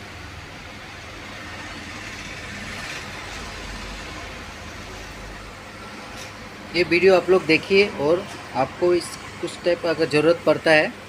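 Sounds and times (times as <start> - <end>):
steady mechanical hum and hiss: 0.0 - 11.0.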